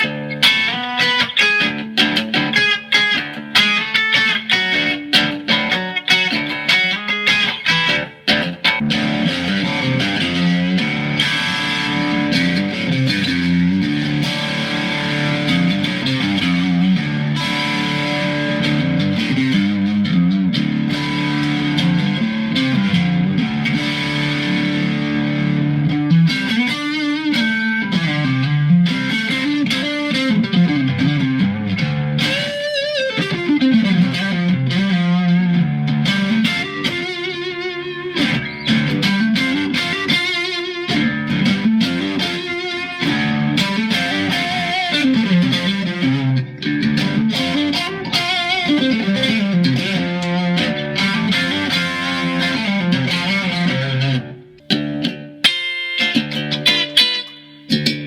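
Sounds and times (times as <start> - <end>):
electric guitar riffs: 0.0 - 58.0
guitar pitch slide: 0.0 - 58.0.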